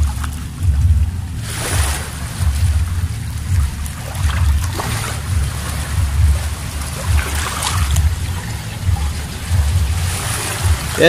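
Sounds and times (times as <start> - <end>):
shallow water lapping at shore: 0.0 - 11.0
wind buffeting microphone: 0.0 - 11.0.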